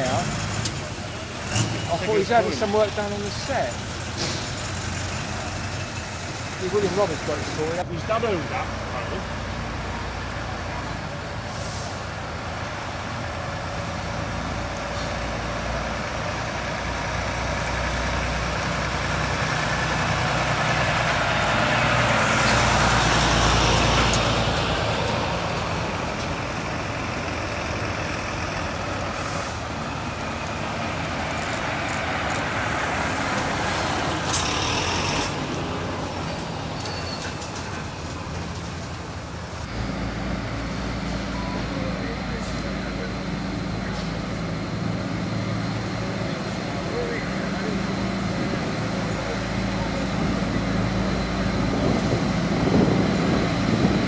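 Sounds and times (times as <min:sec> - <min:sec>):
diesel lorries passing: 0:00.0 - 0:54.0.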